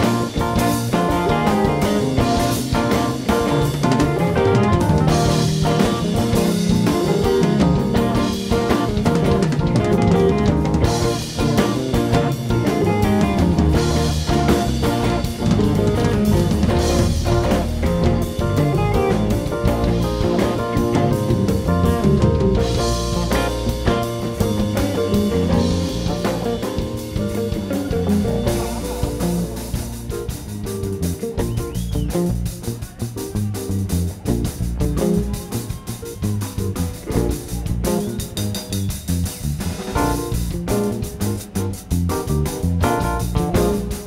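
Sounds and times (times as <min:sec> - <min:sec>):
drum kit beat: 0:00.0 - 0:44.0
electric guitars: 0:00.0 - 0:44.0
keyboard: 0:00.0 - 0:44.0.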